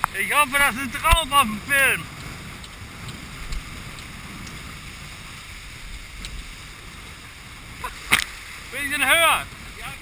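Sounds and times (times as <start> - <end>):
water rushing along a hull: 0.0 - 10.0
wind on microphone: 0.0 - 10.0.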